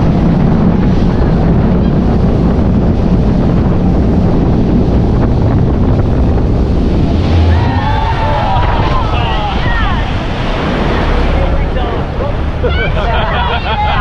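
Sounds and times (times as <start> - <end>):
rushing water: 0.0 - 14.0
watercraft engine rumble: 0.0 - 14.0
wind buffeting microphone: 0.0 - 14.0.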